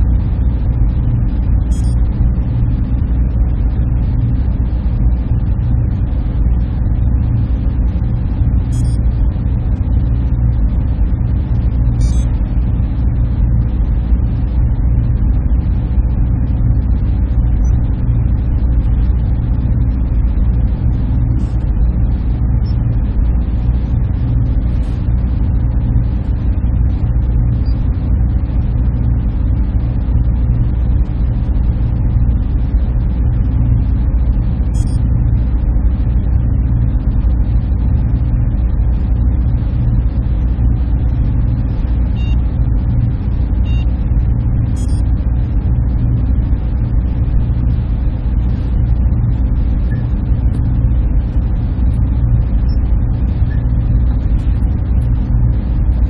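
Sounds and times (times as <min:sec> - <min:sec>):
server cooling fans humming: 0:00.0 - 0:56.0.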